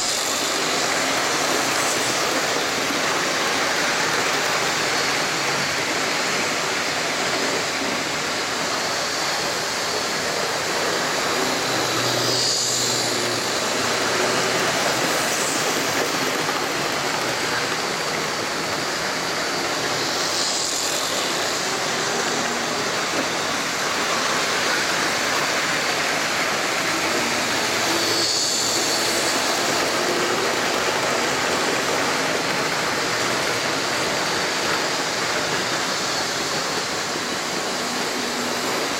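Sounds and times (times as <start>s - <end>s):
model trains whirring on rails: 0.0s - 38.9s.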